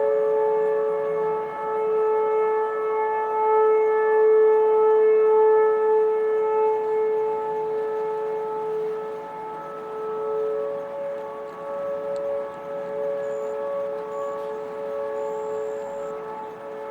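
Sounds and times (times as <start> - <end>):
warning sirens steady tone: 0.0 - 16.9.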